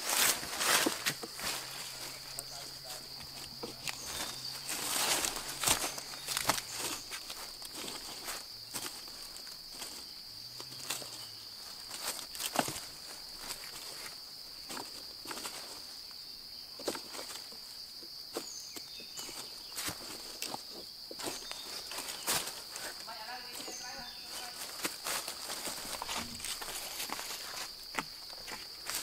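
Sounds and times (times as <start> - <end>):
dry leaves rustling: 0.0 - 29.0
insects droning: 0.0 - 29.0.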